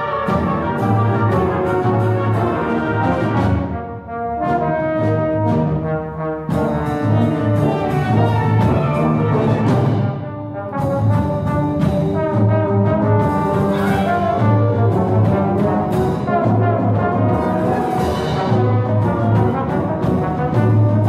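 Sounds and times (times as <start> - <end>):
solo trombone: 0.0 - 21.0
wind orchestra playing: 0.0 - 21.0.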